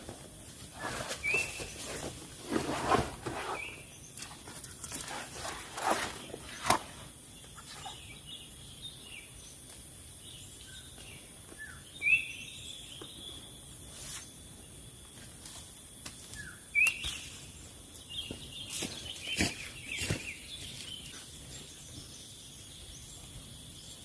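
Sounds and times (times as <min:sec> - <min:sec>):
small birds chirping: 0:03.3 - 0:15.2, 0:16.2 - 0:24.0.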